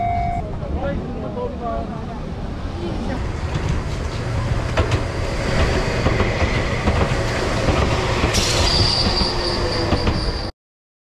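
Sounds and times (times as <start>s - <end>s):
electric train wheels rumbling: 0.4s - 10.5s.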